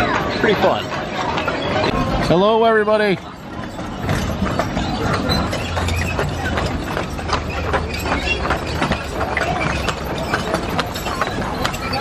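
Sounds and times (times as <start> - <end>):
coach wheels rumbling: 0.0 - 12.0
hooves clip-clopping on pavement: 0.0 - 12.0.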